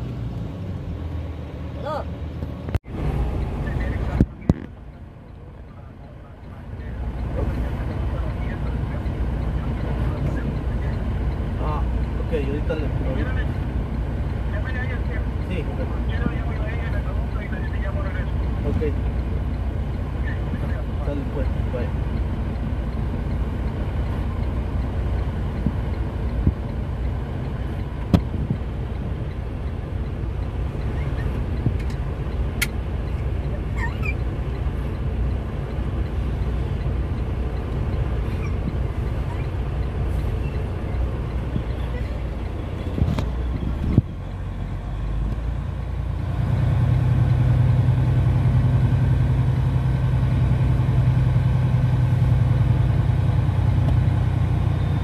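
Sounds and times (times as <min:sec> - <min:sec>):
low engine drone: 0:00.0 - 0:55.0
truck engine and road rumble: 0:00.0 - 0:55.0.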